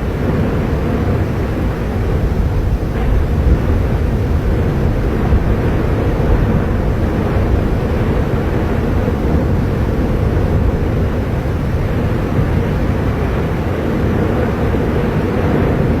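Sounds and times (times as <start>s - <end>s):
volcano deep rumble: 0.0s - 16.0s.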